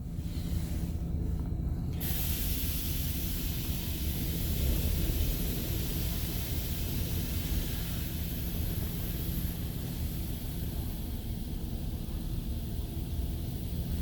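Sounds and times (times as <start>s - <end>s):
low rumble: 0.0s - 14.0s
car wash spray hissing: 1.9s - 14.0s.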